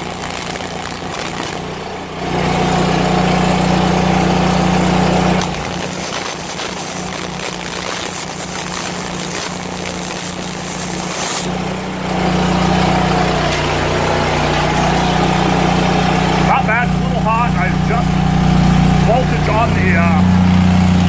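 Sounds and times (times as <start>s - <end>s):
welder engine running: 0.0s - 21.0s
welding arc crackling hiss: 0.0s - 21.0s.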